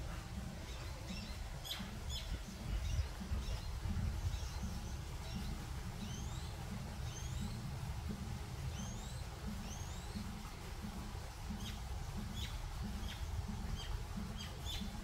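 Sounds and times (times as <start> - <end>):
low steady rumble: 0.0 - 15.0
small birds chirping: 0.0 - 15.0.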